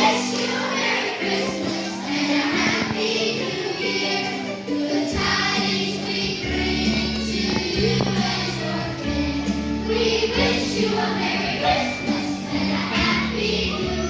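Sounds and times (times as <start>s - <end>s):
children's choir singing: 0.0s - 14.0s
instrumental accompaniment with bass: 0.8s - 14.0s.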